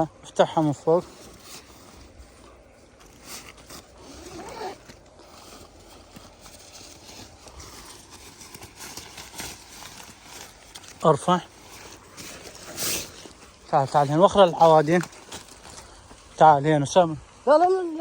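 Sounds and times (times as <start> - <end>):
nylon fabric rustling: 0.4 - 16.4.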